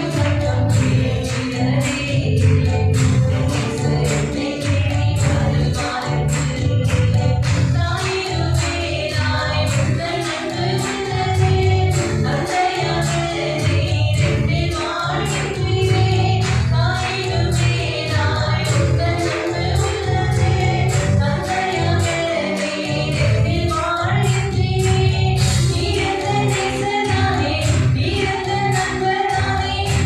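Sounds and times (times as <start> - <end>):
group singing worship song: 0.0 - 30.0
instrumental accompaniment: 0.0 - 30.0
steady percussion beat: 0.0 - 30.0.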